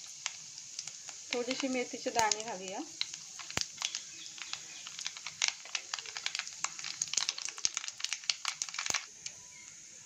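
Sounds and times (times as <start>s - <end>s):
faint oil sizzle: 0.0s - 10.0s
seeds popping in hot oil: 0.0s - 10.0s.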